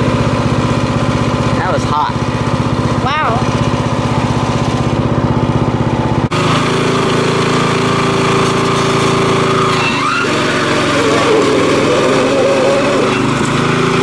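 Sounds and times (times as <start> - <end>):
lawn mower engine running: 0.0 - 14.0
tire scrubbing on board: 2.3 - 14.0.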